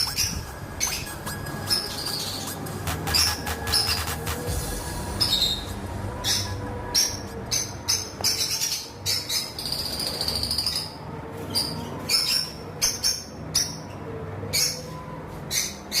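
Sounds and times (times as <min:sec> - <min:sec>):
steady low hum: 0:00.0 - 0:15.9
lovebirds chirping: 0:00.0 - 0:16.0.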